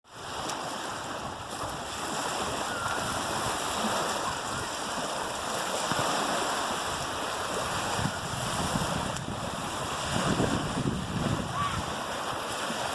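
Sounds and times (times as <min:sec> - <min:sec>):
waves on a shore: 0:00.0 - 0:12.9.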